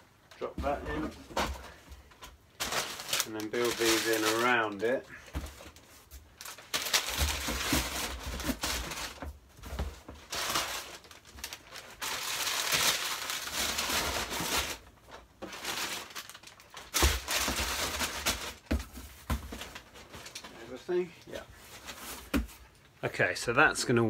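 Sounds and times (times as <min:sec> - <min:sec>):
wrapping crinkling and rustling: 0:00.2 - 0:23.0.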